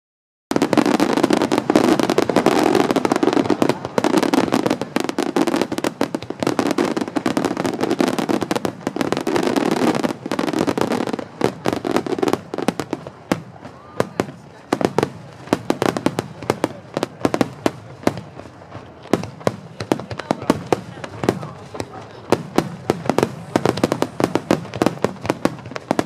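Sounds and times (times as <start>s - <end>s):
fireworks bursts rumbling: 0.5s - 26.0s
fireworks crackling pops: 0.5s - 26.0s.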